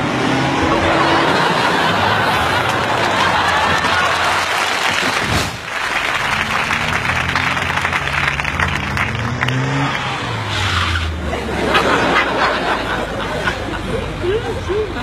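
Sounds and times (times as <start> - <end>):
street traffic: 0.0 - 15.0
vehicle engine accelerating: 0.0 - 15.0
audience laughter and applause: 0.5 - 10.4, 11.2 - 15.0.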